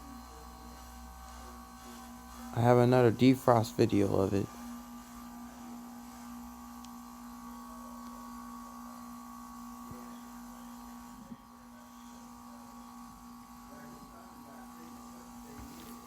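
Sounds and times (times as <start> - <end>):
heat pump humming: 0.0 - 16.0.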